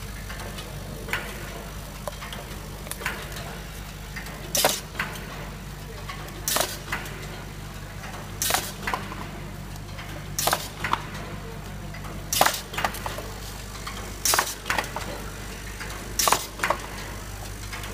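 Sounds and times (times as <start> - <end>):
machine mechanical clacks: 0.0 - 17.9.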